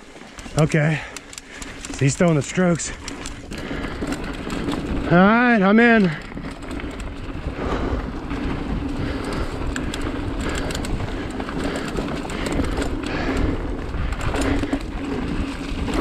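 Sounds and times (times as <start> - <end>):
bike clattering over bumps: 0.0 - 16.0
bike tyres rolling over dirt: 0.0 - 16.0.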